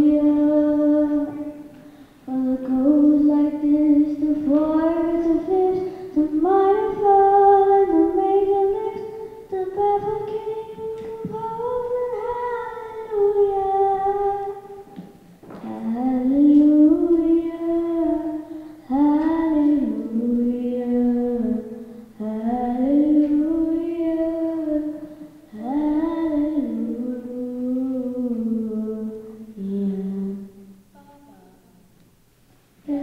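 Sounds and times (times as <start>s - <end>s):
children singing a cappella: 0.0s - 30.8s.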